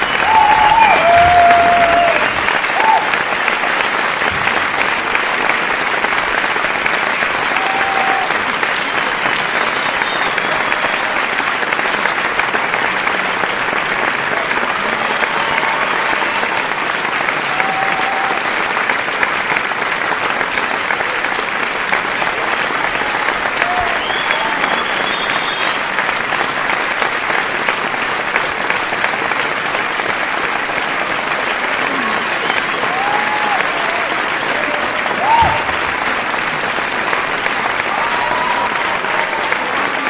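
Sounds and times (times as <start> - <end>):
crowd applauding: 0.0 - 40.0.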